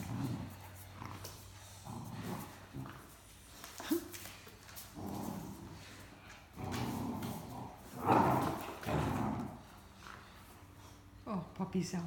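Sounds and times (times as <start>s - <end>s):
puppy growling: 0.0s - 10.4s.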